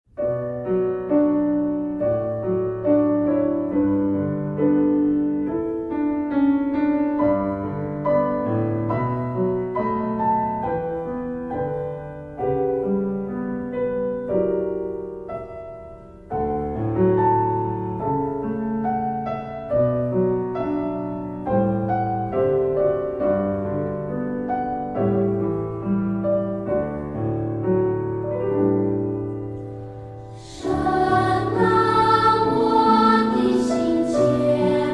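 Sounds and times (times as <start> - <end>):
slow gentle piano music: 0.1 - 34.9.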